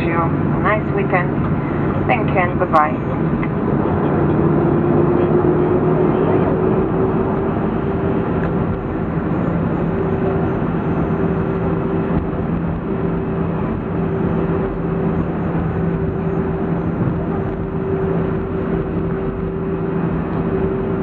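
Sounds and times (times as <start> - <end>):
aircraft engine rumble and hiss: 0.0 - 21.0
low cabin hum: 0.0 - 21.0.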